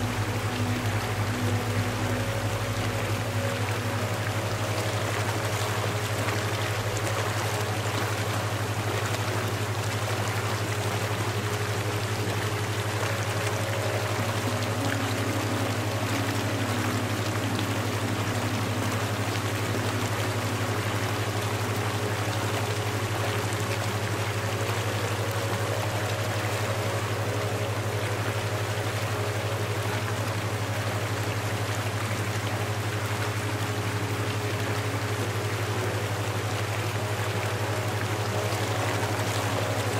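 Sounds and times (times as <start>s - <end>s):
constant low hum: 0.0s - 39.9s
running water: 0.0s - 39.9s.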